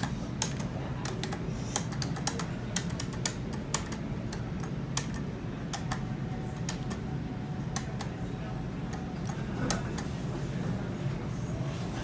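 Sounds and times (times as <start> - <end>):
elevator humming: 0.0 - 12.0.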